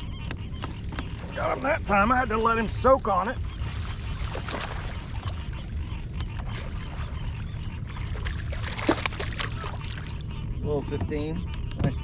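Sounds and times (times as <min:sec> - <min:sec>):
steady low rumble: 0:00.0 - 0:12.0
water splashing and dripping: 0:00.6 - 0:10.3.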